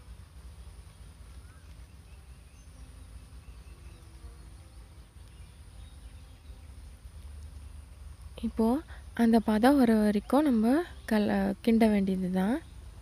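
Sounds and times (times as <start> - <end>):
faint high whine: 0.0 - 13.0
low steady hum: 0.0 - 13.0.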